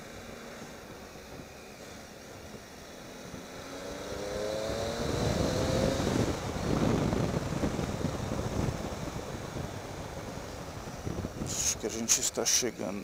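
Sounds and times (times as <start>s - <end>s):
motorcycle engine accelerating: 0.0s - 11.8s
wind and road rumble: 0.0s - 13.0s.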